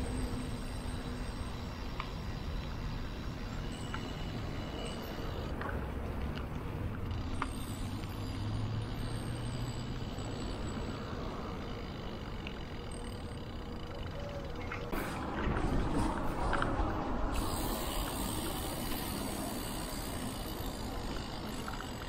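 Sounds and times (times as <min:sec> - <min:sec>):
bicycle tyre noise: 0:00.0 - 0:22.0
bike clicks: 0:00.0 - 0:22.0.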